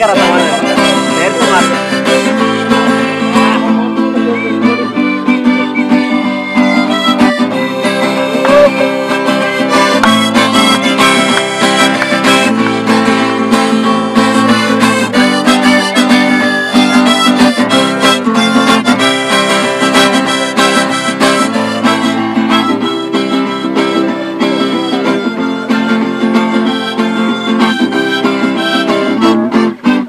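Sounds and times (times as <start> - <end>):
acoustic guitar strumming: 0.0 - 30.0
harmonica notes: 0.0 - 30.0.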